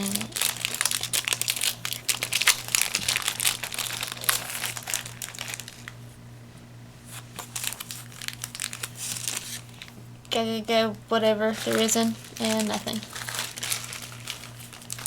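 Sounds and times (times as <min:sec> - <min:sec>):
foil wrapper crinkling: 0:00.0 - 0:06.1, 0:07.1 - 0:10.0, 0:11.5 - 0:15.0.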